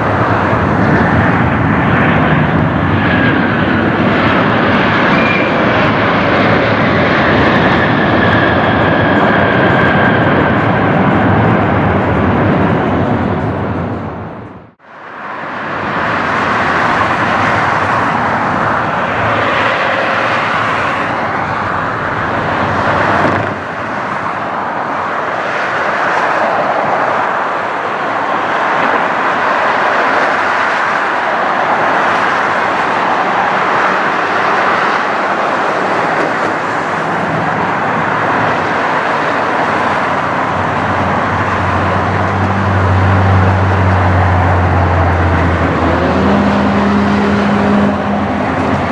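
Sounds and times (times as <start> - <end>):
jet engines roaring: 0.0 - 48.9.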